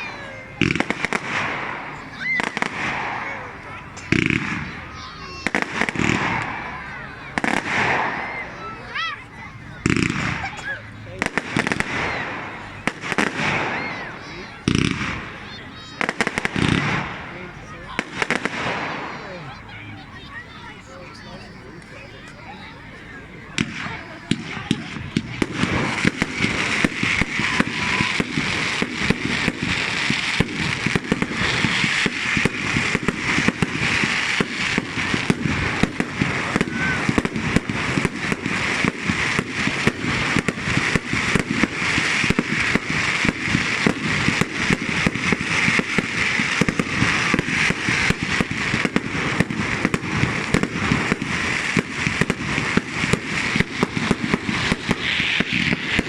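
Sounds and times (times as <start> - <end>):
fireworks hiss and crackle: 0.0 - 56.0
fireworks rapid bangs: 0.0 - 56.0.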